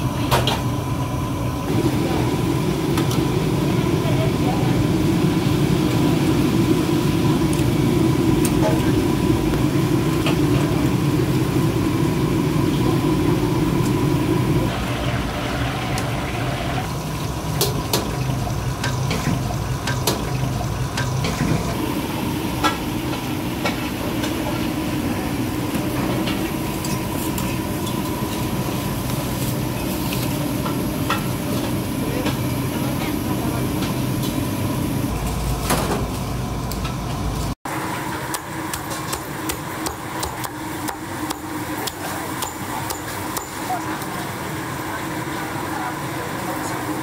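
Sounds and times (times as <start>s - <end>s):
low kitchen hum: 0.0s - 47.0s.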